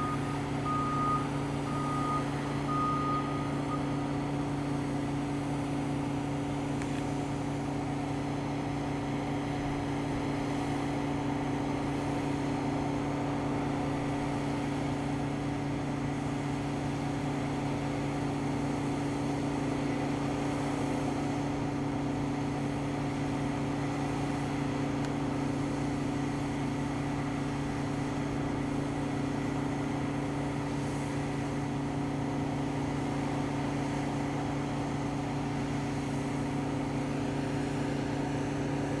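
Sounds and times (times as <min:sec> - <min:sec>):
diesel machinery engine drone: 0:00.0 - 0:39.0.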